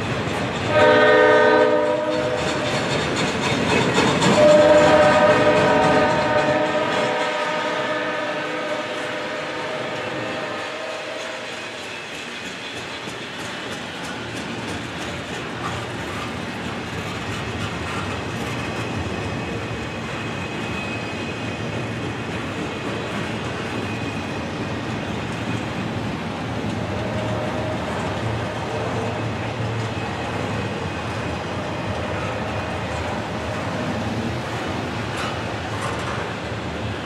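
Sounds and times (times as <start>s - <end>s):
steel wheels on rails: 0.0s - 37.0s.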